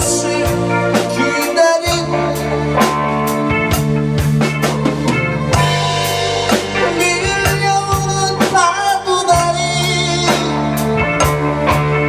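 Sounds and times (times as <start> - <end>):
drum kit strokes: 0.0 - 12.0
long held bass notes: 0.0 - 12.0
other pitched instruments: 0.0 - 12.0.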